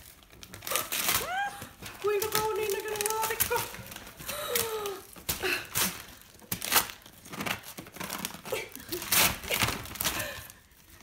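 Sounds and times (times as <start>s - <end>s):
cardboard and paper tearing: 0.0s - 10.5s.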